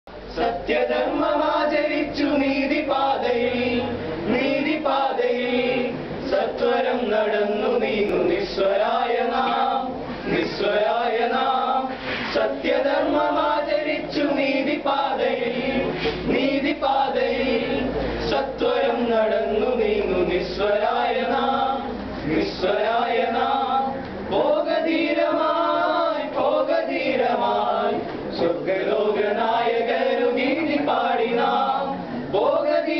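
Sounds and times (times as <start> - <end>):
male voices singing together: 0.3 - 32.9.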